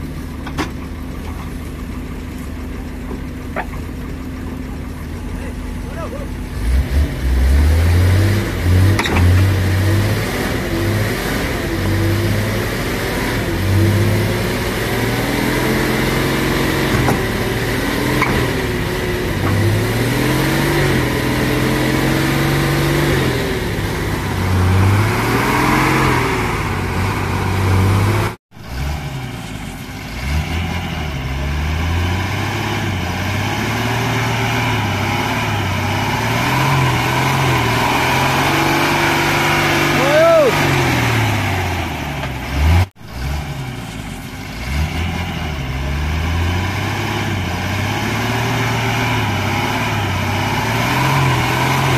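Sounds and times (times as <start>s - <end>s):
truck diesel engine revving: 0.0s - 51.9s.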